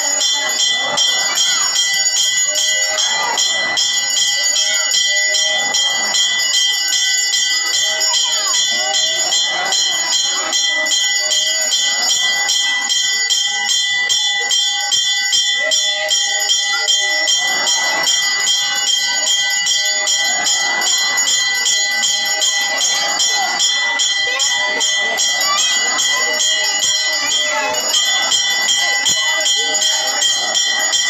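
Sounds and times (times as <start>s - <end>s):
temple bells ringing rapidly: 0.0s - 31.0s.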